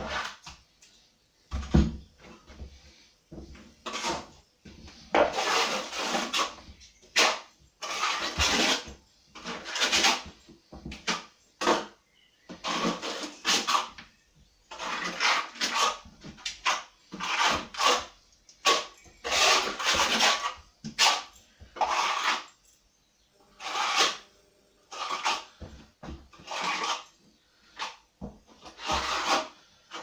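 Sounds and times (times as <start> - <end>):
trowel scraping plaster on wall: 0.0 - 0.4, 3.8 - 22.6, 23.5 - 30.0.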